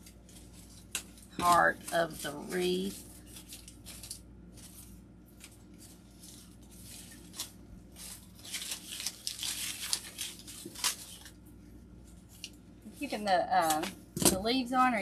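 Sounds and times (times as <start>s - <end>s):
artificial flowers rustling: 0.0s - 13.9s.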